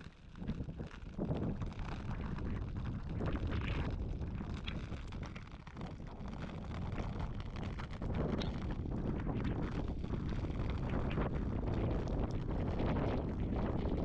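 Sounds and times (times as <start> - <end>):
wind buffeting microphone: 0.4 - 14.0.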